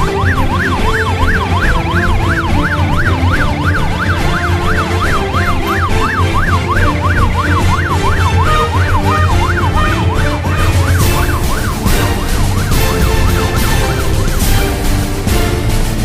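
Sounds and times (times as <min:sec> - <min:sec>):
electronic siren yelping: 0:00.0 - 0:15.1
music: 0:00.0 - 0:16.0.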